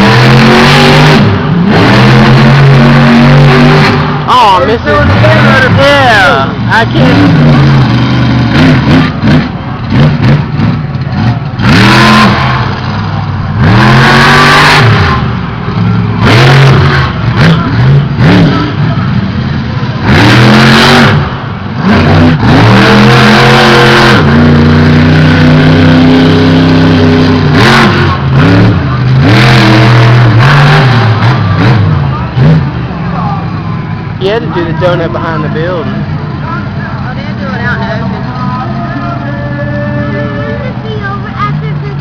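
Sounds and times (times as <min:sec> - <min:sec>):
monster truck engine revving: 0:00.0 - 0:42.0.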